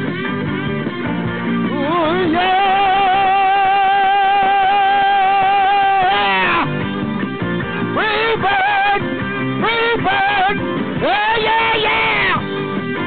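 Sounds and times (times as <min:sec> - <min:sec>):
rock band with guitar: 0:00.0 - 0:13.0.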